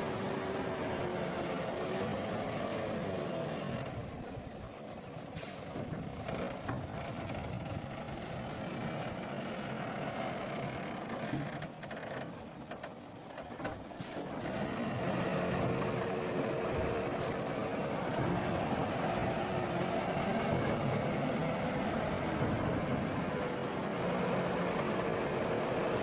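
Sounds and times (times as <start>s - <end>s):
diesel engine of heavy machinery: 0.0s - 26.0s.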